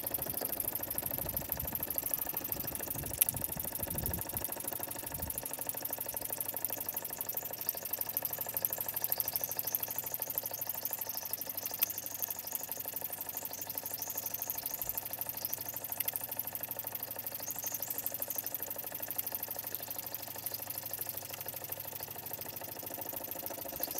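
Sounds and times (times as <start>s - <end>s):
toy steam engine chuffing: 0.0s - 23.9s.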